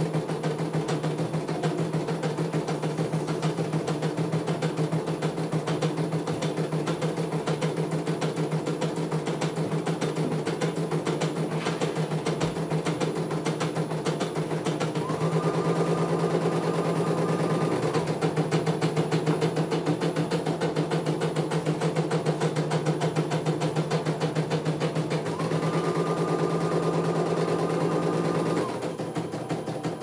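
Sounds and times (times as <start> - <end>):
embroidery machine needle stitching: 0.0 - 30.0.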